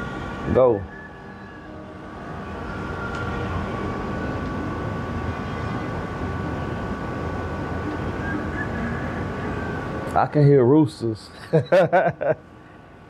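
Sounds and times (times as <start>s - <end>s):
faint steady hum: 0.0s - 13.0s
low rumbling background noise: 0.0s - 13.0s.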